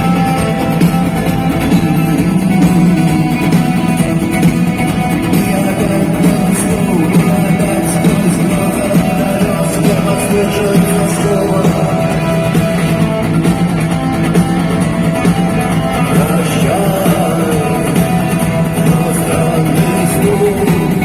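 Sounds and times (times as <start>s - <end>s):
electric guitar: 0.0s - 21.0s
live rock band playing: 0.0s - 21.0s
person singing: 1.7s - 13.6s, 14.7s - 21.0s.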